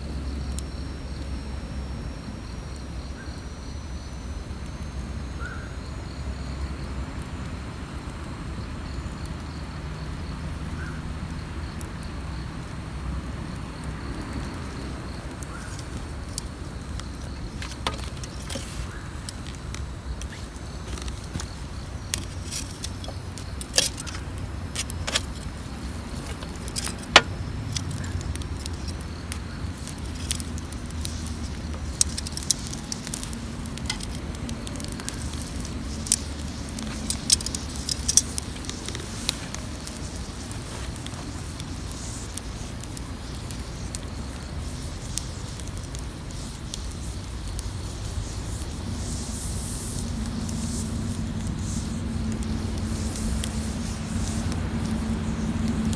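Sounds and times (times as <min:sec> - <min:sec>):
wood fire crackling and popping: 0:00.1 - 0:55.9.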